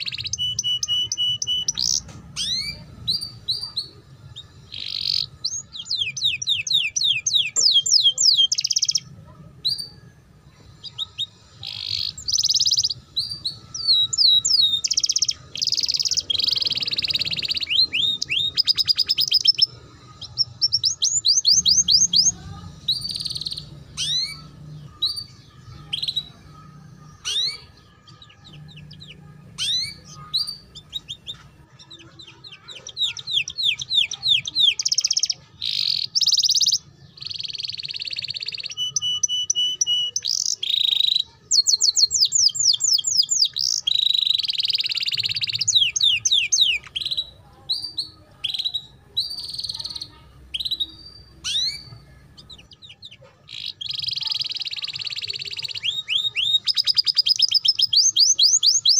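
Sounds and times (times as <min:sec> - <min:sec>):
canary singing: 0:00.0 - 0:58.9.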